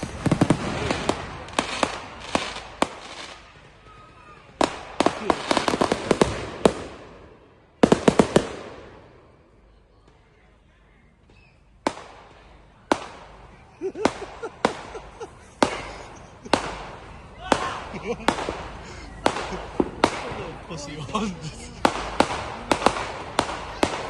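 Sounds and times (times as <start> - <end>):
fireworks cracking and banging: 0.0 - 9.2, 11.8 - 24.0.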